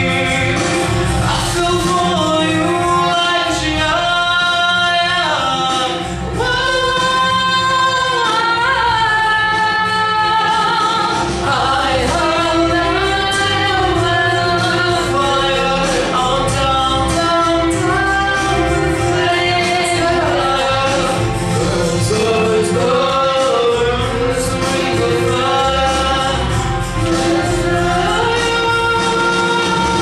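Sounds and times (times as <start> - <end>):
backing track music: 0.0 - 30.0
person singing: 0.0 - 30.0.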